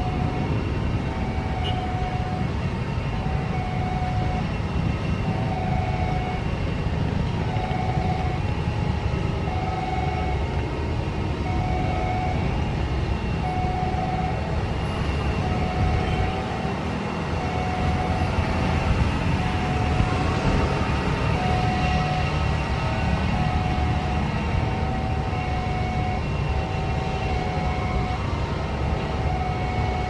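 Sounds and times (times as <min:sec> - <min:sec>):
jet engine whine: 0:00.0 - 0:30.0
jet engines rumbling: 0:00.0 - 0:30.0.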